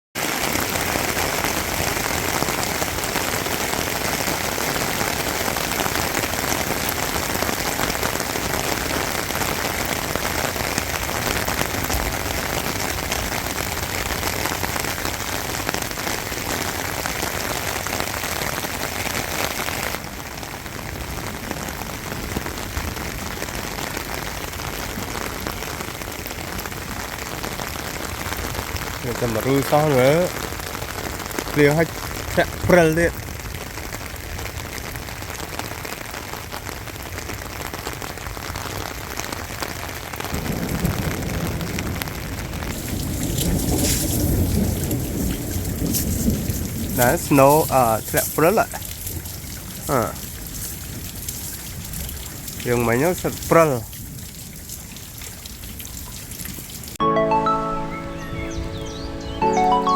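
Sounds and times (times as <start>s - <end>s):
rain falling steadily: 0.2s - 57.0s.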